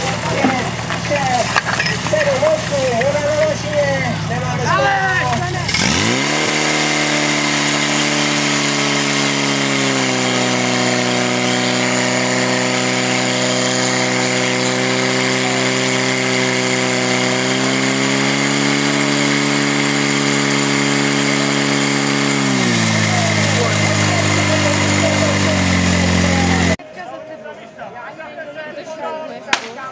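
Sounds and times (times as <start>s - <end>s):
fire pump engine running: 0.0s - 26.8s.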